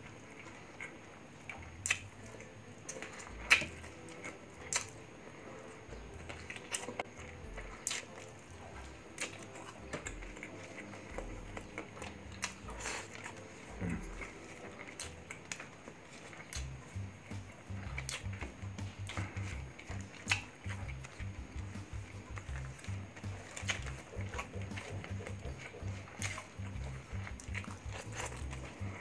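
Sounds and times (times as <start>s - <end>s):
chewing and lip smacks: 0.0s - 29.0s
mouth clicks: 0.8s - 5.0s, 5.9s - 29.0s.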